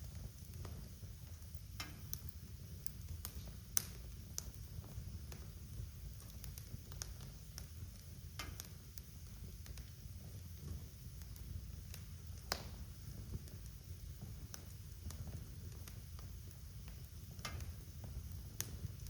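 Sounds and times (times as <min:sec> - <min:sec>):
fire crackling and popping: 0:00.0 - 0:19.0
low steady rumble: 0:00.0 - 0:19.0.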